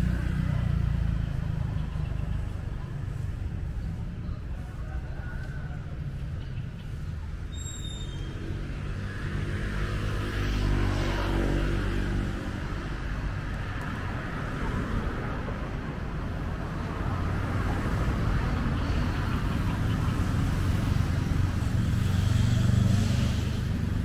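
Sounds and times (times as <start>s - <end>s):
hum of passing cars: 0.0s - 24.0s.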